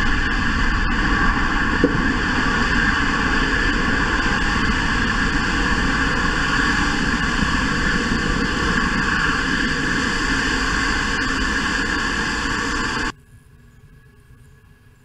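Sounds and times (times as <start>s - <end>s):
rocket engine roar: 0.0s - 14.9s
faint outdoor ambience: 0.0s - 15.0s.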